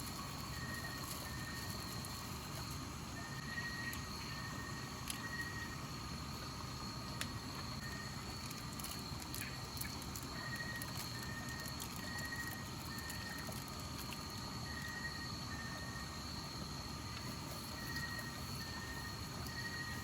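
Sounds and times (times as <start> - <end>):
insect short chirps: 0.0 - 5.9, 7.3 - 16.6, 17.2 - 20.0
insect high-pitched trill: 0.0 - 20.0.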